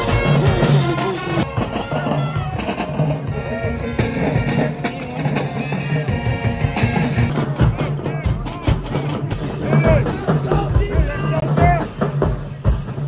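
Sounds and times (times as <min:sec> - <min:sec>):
marching band brass: 0:00.0 - 0:13.0
steady drum beat: 0:00.0 - 0:13.0.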